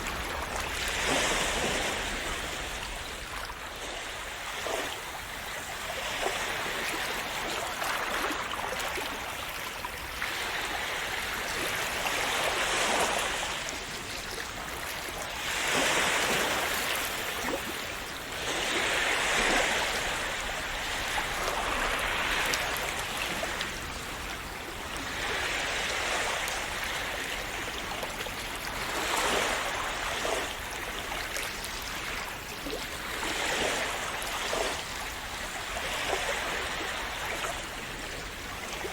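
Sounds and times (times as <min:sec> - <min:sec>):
sea waves washing in: 0:00.0 - 0:38.9.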